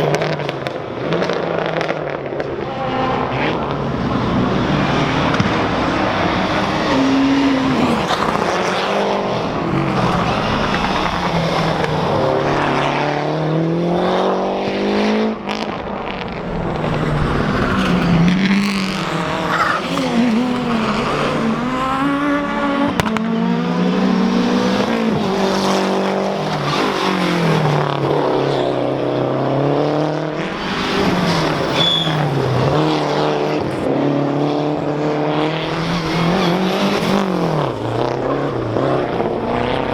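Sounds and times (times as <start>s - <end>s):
rally car engine accelerating: 0.0s - 39.9s.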